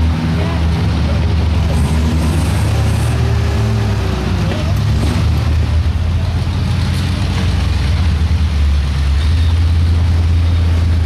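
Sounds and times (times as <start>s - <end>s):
truck engine running at low revs: 0.0s - 11.0s.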